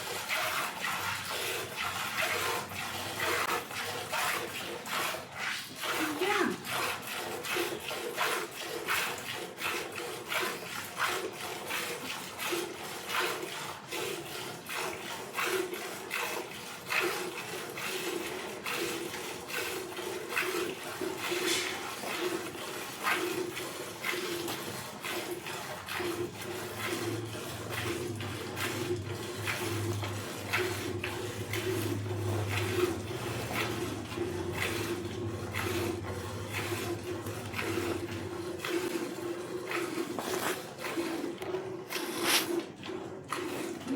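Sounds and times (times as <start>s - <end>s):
milk squirting into a bucket: 0.0s - 43.9s.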